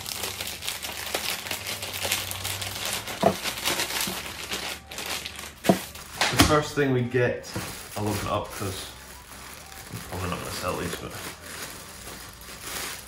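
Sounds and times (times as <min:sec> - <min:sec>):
plastic bag tearing and crinkling: 0:00.0 - 0:13.0.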